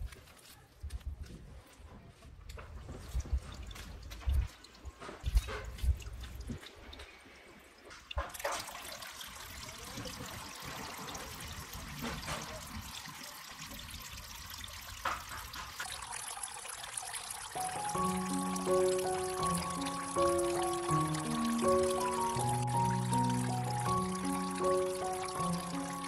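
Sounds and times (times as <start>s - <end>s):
water trickling and splashing: 1.6s - 26.0s.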